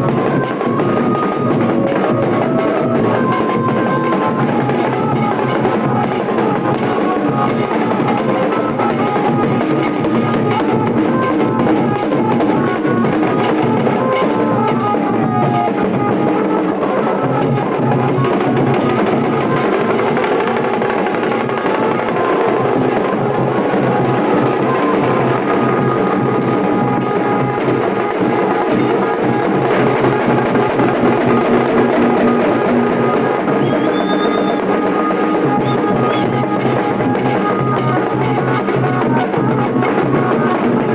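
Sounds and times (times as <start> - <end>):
dhol drums beating fast: 0.0 - 40.9.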